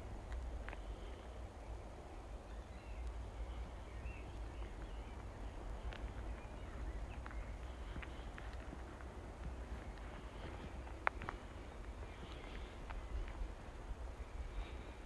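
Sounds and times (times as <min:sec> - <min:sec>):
birds chirping faintly: 0:00.0 - 0:15.0
steady low rumble: 0:00.0 - 0:15.0.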